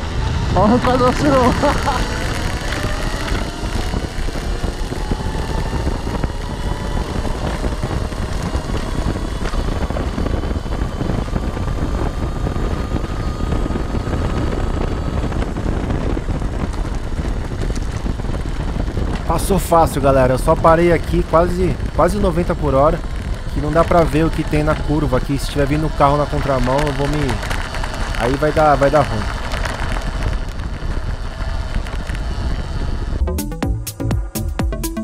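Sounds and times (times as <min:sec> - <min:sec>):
electric motorcycle motor whine: 0:00.0 - 0:33.2
wind on microphone: 0:00.0 - 0:33.3.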